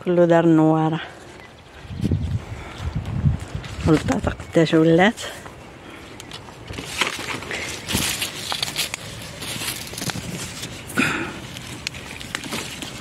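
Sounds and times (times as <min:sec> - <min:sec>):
plant leaves rustling and crackling: 0:01.0 - 0:13.0.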